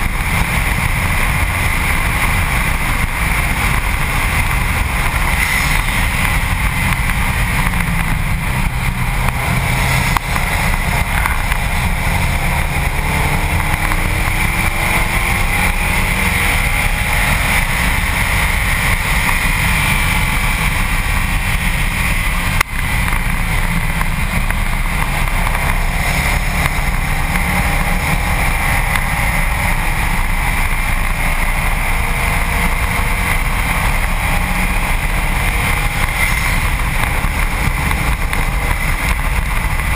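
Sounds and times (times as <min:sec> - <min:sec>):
faint car engine: 0:00.0 - 0:39.9
wind and tyre rush: 0:00.0 - 0:39.9.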